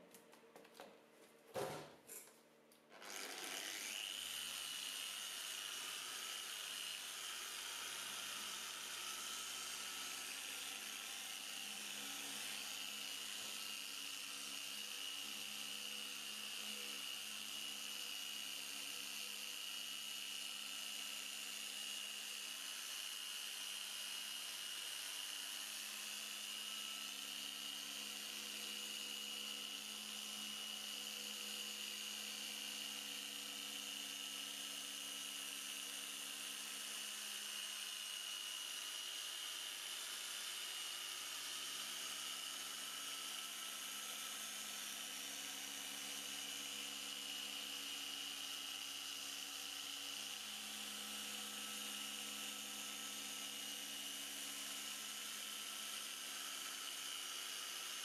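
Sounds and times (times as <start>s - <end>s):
electric polisher whining: 2.9s - 58.0s.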